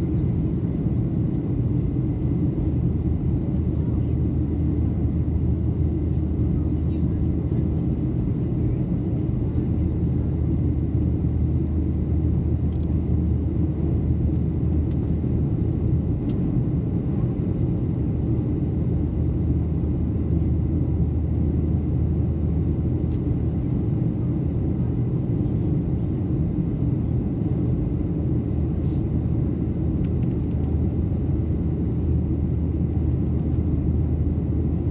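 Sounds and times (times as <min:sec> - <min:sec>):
jet engine drone in cabin: 0:00.0 - 0:34.9.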